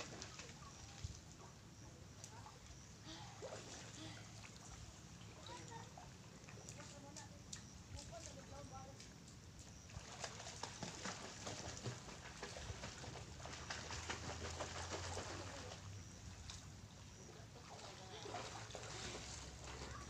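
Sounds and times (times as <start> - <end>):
water lapping on rocky shore: 2.2 - 20.0.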